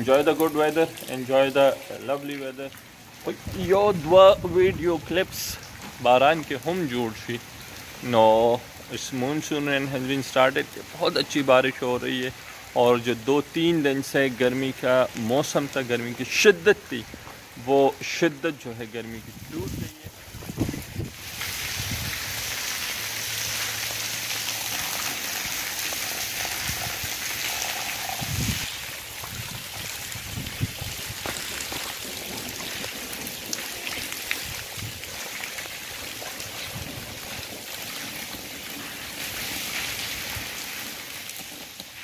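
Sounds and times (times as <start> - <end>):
rain on pavement: 0.0 - 42.0.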